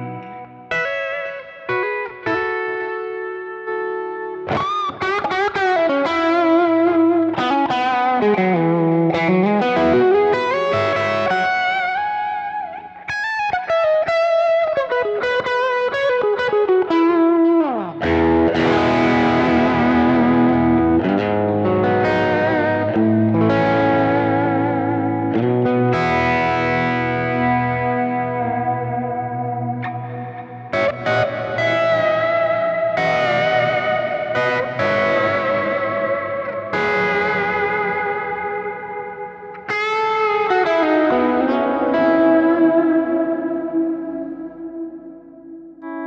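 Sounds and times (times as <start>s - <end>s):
electric guitar: 0.0s - 46.0s.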